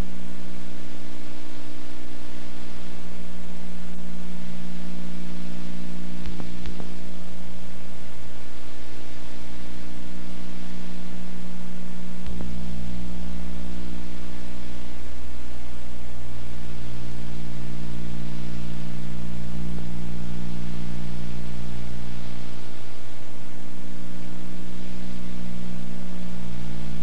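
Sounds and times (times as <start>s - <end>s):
low electrical hum and buzz: 0.0s - 27.0s
tape hiss: 0.0s - 27.0s.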